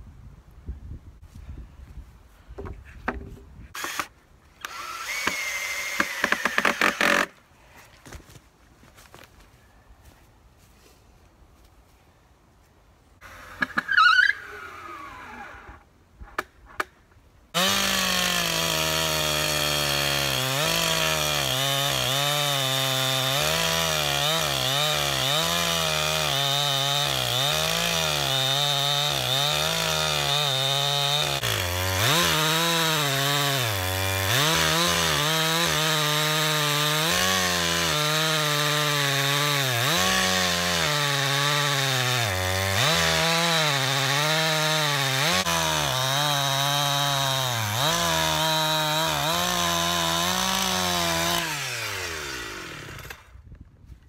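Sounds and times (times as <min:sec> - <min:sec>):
chainsaw cutting log: 0:03.1 - 0:07.4, 0:13.2 - 0:16.9, 0:17.5 - 0:53.4.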